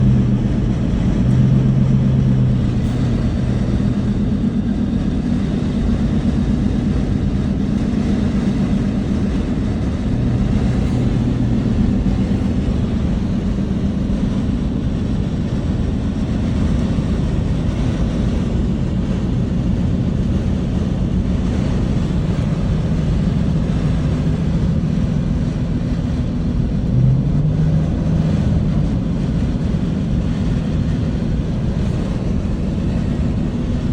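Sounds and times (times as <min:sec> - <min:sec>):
road and wind noise: 0:00.0 - 0:33.9
vehicle engine drone: 0:00.0 - 0:33.9.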